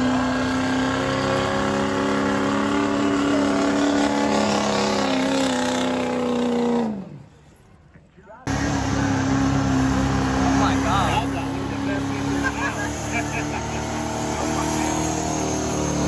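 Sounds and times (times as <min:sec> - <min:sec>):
tractor engine revving: 0:00.0 - 0:07.4, 0:08.5 - 0:16.0.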